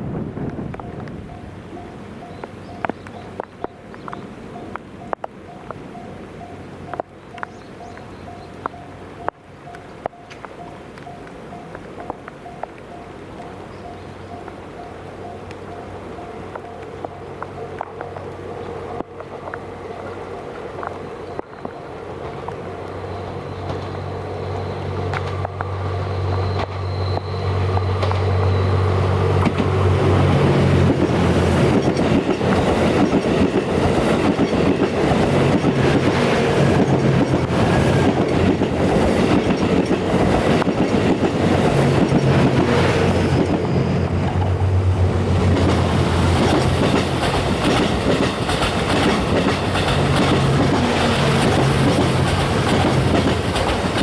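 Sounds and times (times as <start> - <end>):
train engine drone: 0.0 - 54.0
train wheels clattering on rails: 6.9 - 54.0.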